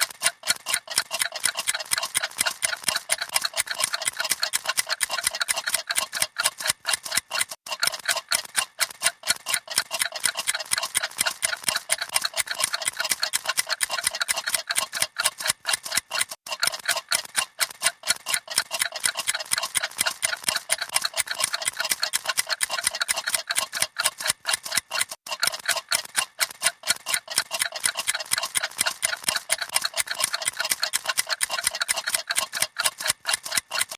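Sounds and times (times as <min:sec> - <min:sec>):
clocks ticking: 0:00.0 - 0:33.9.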